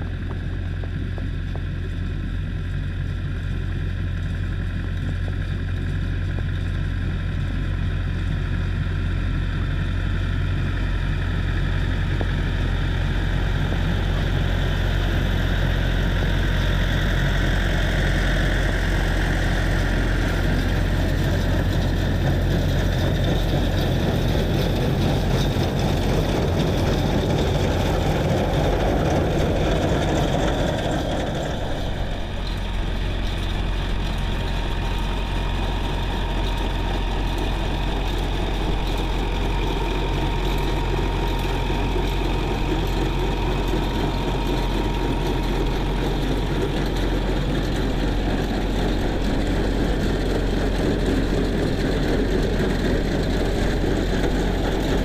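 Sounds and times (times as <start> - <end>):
tractor diesel engine droning: 0.0 - 55.0.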